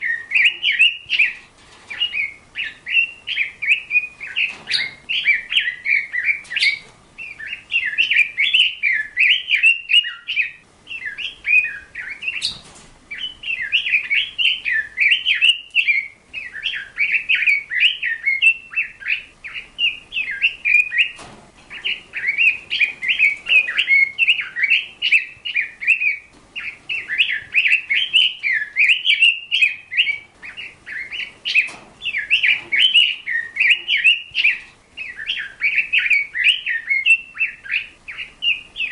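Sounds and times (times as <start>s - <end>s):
bird chirping and warbling: 0.0s - 38.9s.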